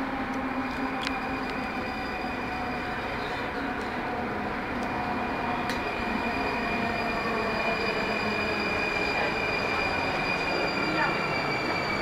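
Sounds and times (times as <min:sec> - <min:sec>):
train running gear rumbling: 0:00.0 - 0:12.0
high-pitched wheel and brake squeal: 0:00.8 - 0:03.7, 0:05.1 - 0:12.0.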